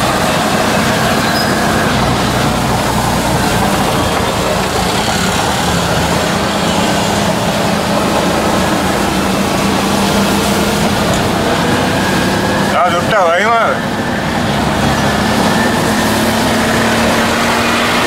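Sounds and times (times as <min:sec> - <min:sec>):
rickshaw engine running: 0:00.0 - 0:18.0
wind and wet road hiss: 0:00.0 - 0:18.0.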